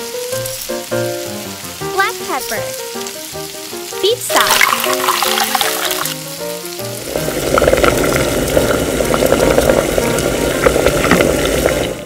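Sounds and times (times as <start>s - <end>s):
light background music: 0.0s - 11.2s
meat sizzling in a wok: 0.0s - 12.0s.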